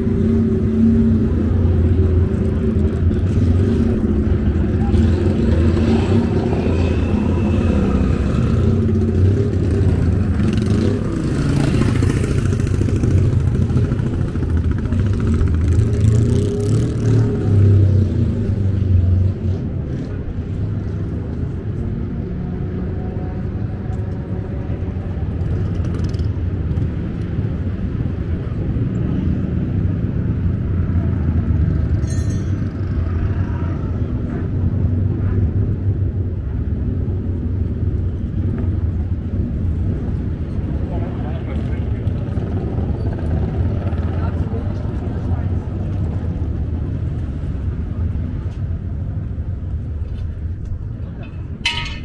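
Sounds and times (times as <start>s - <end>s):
motorcycle engines droning: 0.0s - 52.0s.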